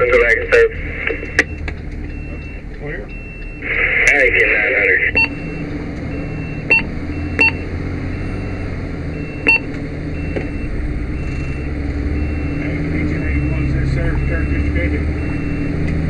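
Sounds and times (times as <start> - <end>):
engine and road rumble in cab: 0.0 - 16.0
short electronic beeps: 1.1 - 15.7.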